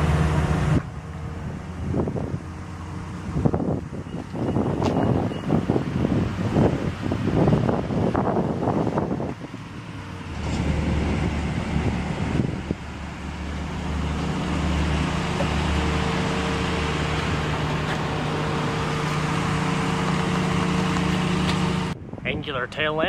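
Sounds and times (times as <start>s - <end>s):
car engine idling: 0.0s - 22.0s
traffic noise: 0.0s - 23.0s.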